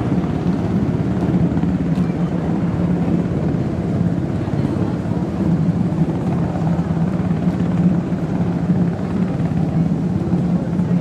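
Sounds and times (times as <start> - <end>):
jet engine low rumble: 0.0 - 11.0.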